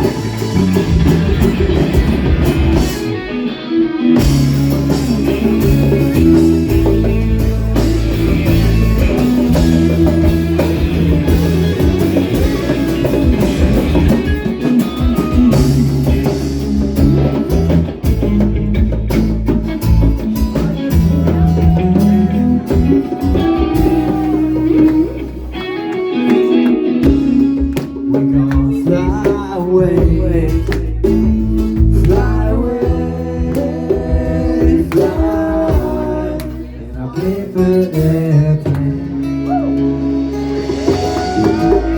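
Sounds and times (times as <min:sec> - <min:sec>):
lead guitar line: 0:00.0 - 0:41.9
live blues rock band: 0:00.0 - 0:41.9.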